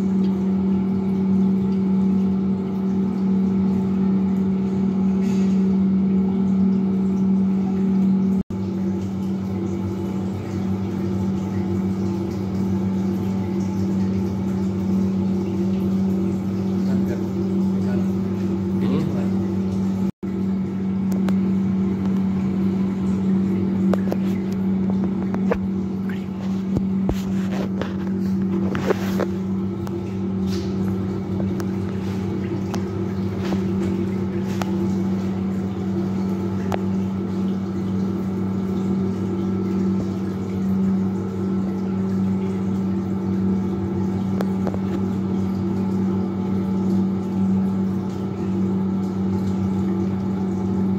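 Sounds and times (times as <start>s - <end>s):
electric water pump humming: 0.0s - 50.9s.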